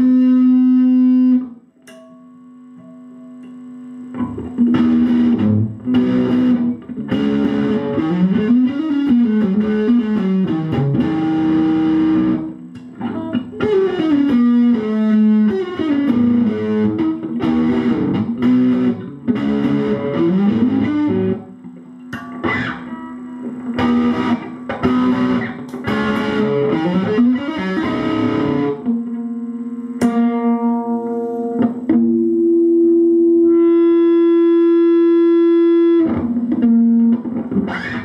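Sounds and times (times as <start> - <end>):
distorted electric guitar: 0.0 - 38.0.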